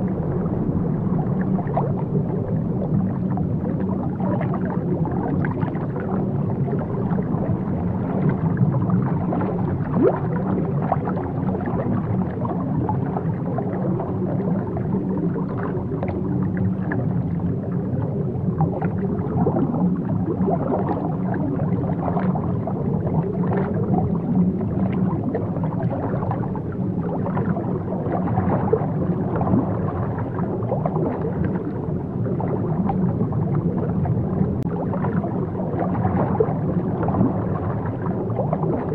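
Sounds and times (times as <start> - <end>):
low underwater rumble: 0.0 - 38.9
water bubbling and gurgling: 0.0 - 38.9.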